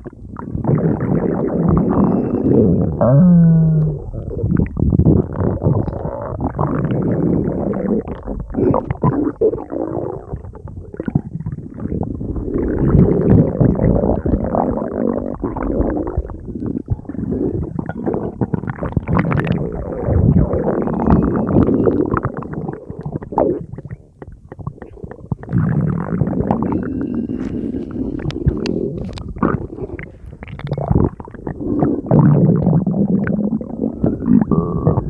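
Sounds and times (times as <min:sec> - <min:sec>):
stomach rumbling and gurgling: 0:00.0 - 0:35.0.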